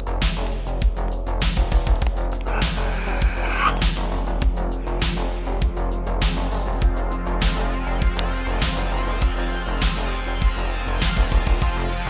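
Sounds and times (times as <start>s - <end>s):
music with kick drum beat: 0.0s - 2.5s, 3.8s - 12.0s.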